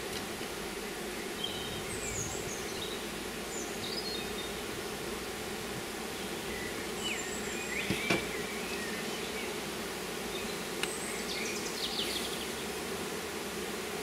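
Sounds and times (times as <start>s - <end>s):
honeybees humming: 0.0s - 14.0s.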